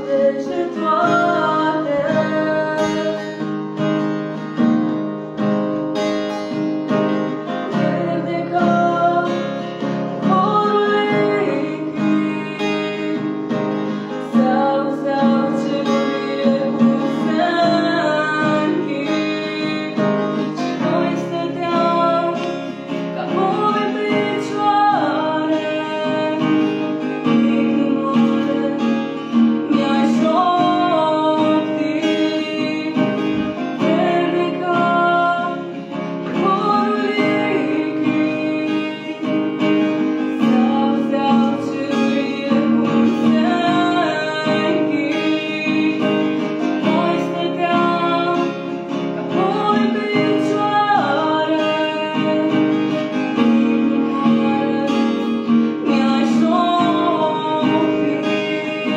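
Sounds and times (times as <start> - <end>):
acoustic guitar strumming: 0.0 - 58.9
woman singing folk song: 0.0 - 58.9.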